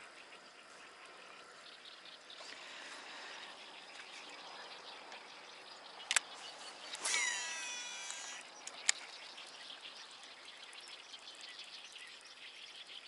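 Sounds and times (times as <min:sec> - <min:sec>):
low steady hiss: 0:00.0 - 0:13.0
small ticks and chirps: 0:00.0 - 0:13.0.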